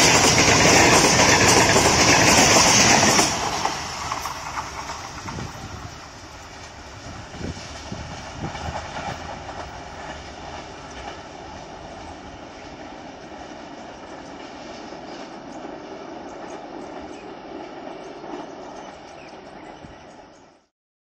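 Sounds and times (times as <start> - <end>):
train wheels rumbling: 0.0 - 20.6.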